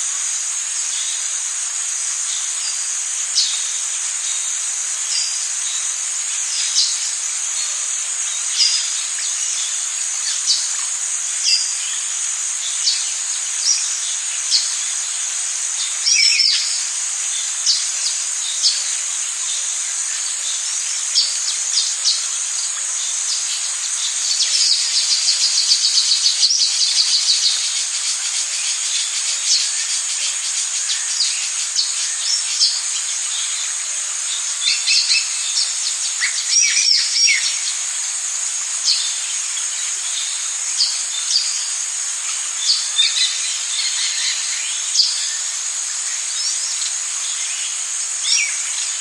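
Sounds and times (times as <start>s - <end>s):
insect chorus drone: 0.0s - 49.0s.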